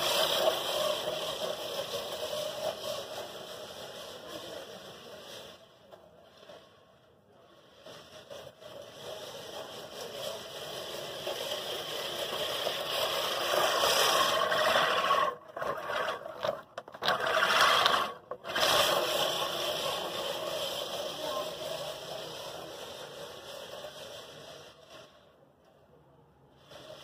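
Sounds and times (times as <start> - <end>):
reel mower scraping whir: 0.0 - 6.7, 7.4 - 25.4, 26.5 - 27.0.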